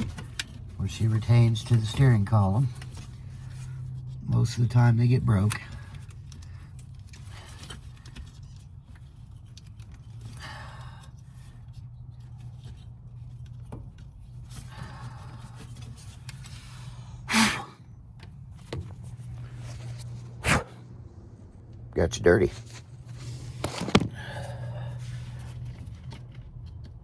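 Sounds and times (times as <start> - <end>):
rustling handling noises: 0.0 - 17.2, 18.0 - 20.4, 21.4 - 27.0
steady low hum: 0.0 - 27.0.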